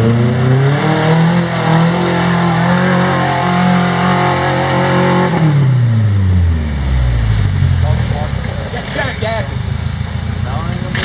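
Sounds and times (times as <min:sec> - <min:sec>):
rock crawler engine revving: 0:00.0 - 0:11.0.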